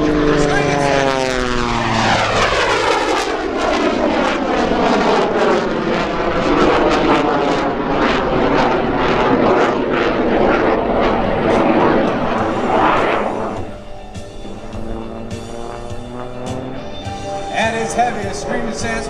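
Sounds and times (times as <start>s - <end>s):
jet engine roaring: 0.0s - 19.0s
radial engine and propeller: 0.0s - 19.0s.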